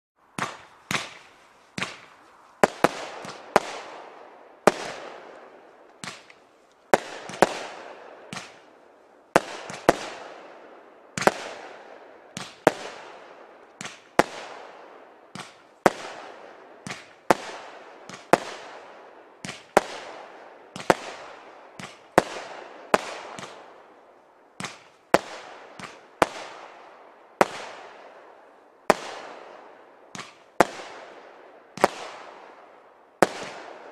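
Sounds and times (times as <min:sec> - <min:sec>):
firework bangs with crackle: 0:00.4 - 0:08.7, 0:09.4 - 0:10.4, 0:11.1 - 0:23.8, 0:24.6 - 0:26.8, 0:27.4 - 0:28.1, 0:28.8 - 0:31.2, 0:31.8 - 0:32.5, 0:33.2 - 0:33.9.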